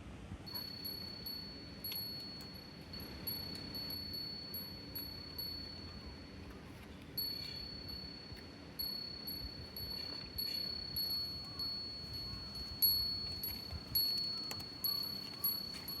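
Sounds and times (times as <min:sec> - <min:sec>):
wind chime ringing: 0:00.5 - 0:06.4, 0:07.2 - 0:16.0.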